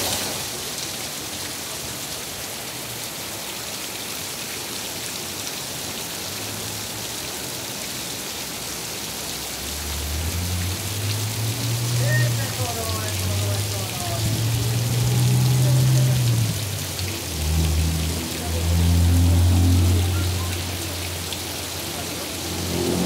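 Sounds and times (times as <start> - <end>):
heavy rain on wet pavement: 0.0 - 23.0.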